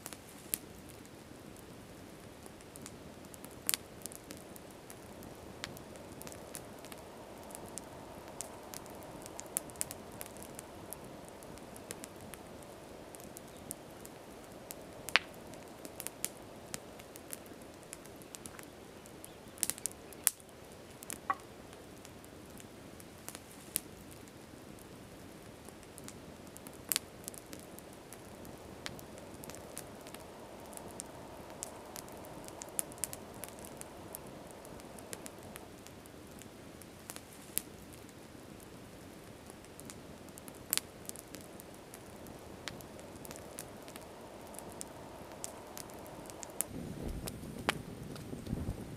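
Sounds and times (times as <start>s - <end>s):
campfire crackling and popping: 0.0s - 48.9s.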